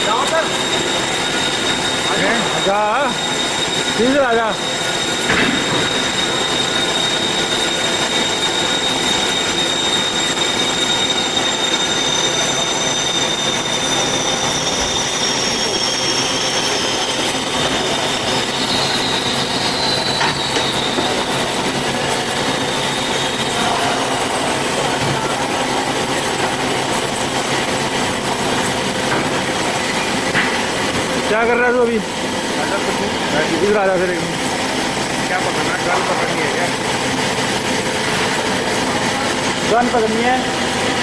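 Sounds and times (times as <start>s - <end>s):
band saw cutting: 0.0s - 41.0s
high blade squeal: 0.0s - 41.0s.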